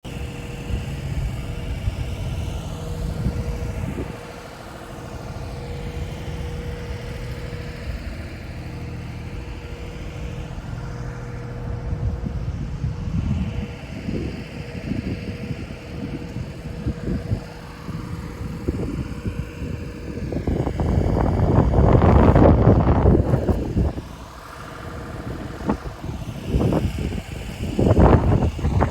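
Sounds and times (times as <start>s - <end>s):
engine humming steadily: 0.0s - 28.9s
wind buffeting the microphone: 0.0s - 28.9s.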